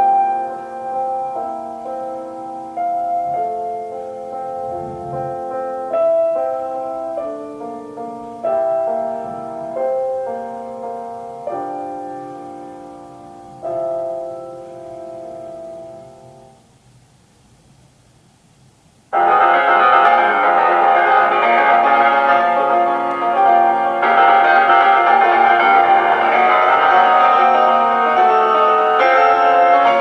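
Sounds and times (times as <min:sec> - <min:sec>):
solo piano melody: 0:00.0 - 0:17.0, 0:19.1 - 0:30.0.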